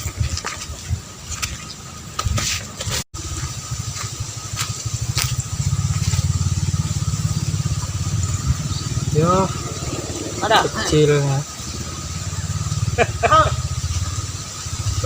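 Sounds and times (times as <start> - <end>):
small engine puttering: 2.8 - 15.0.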